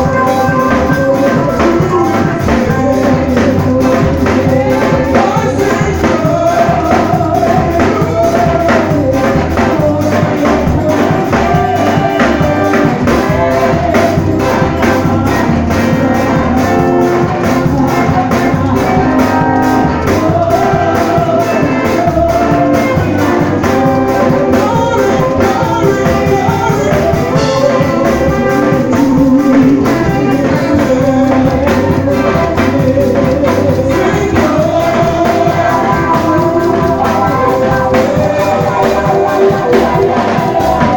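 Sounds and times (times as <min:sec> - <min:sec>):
drum kit: 0:00.0 - 0:40.9
guitar: 0:00.0 - 0:40.9
keyboard: 0:00.0 - 0:40.9
voices singing: 0:00.0 - 0:40.9.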